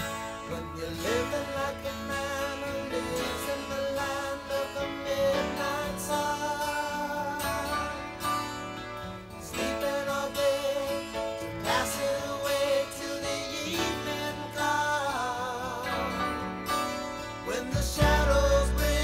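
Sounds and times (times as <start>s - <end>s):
person singing: 0.0s - 8.6s, 9.4s - 19.0s
acoustic guitar: 0.0s - 19.0s.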